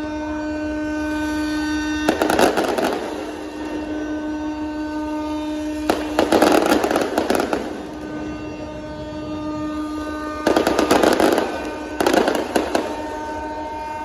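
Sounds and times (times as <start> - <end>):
tugboat horn blasts: 0.0 - 14.0
fireworks bursting and crackling: 2.0 - 14.0.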